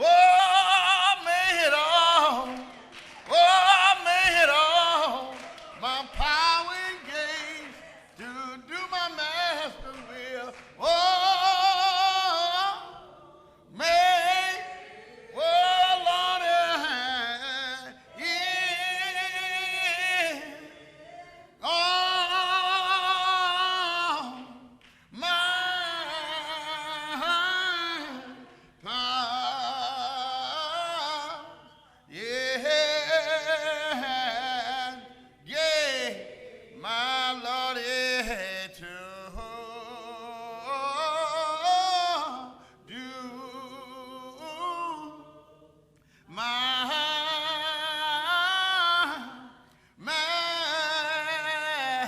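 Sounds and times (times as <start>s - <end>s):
person singing a slow hymn: 0.0s - 52.0s.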